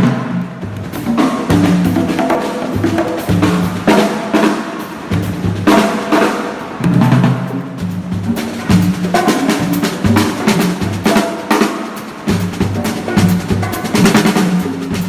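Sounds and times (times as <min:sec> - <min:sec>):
drum kit and percussion groove: 0:00.0 - 0:15.0.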